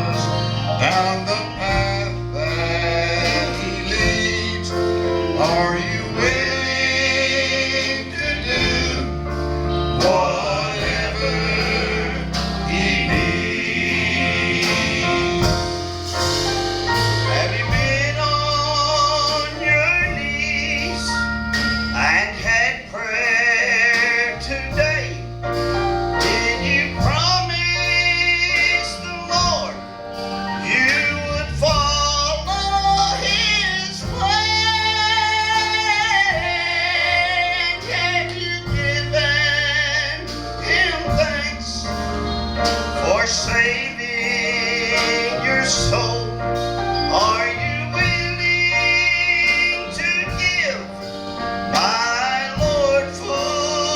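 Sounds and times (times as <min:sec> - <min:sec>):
sustained bass notes: 0:00.0 - 0:53.9
vocal quartet singing: 0:00.0 - 0:53.9.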